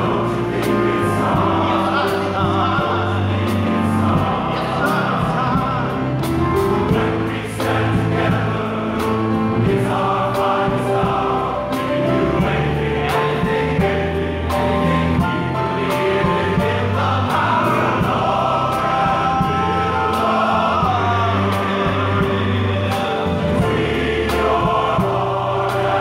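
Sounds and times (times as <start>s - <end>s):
deep bass line: 0.0s - 26.0s
men's chorus singing: 0.0s - 26.0s
steady beat: 0.0s - 26.0s.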